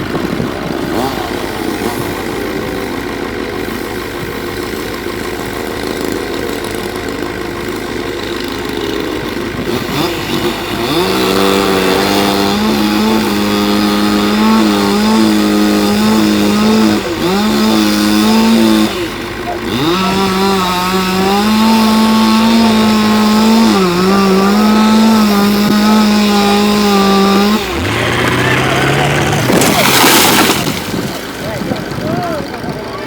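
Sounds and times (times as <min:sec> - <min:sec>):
chainsaw engine revving: 0:00.0 - 0:33.0.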